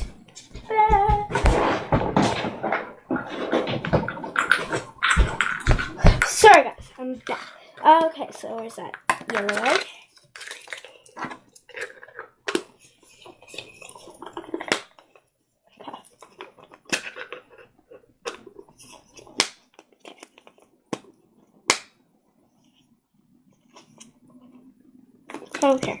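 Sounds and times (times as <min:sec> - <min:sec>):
toy handling noise: 0:00.0 - 0:21.1.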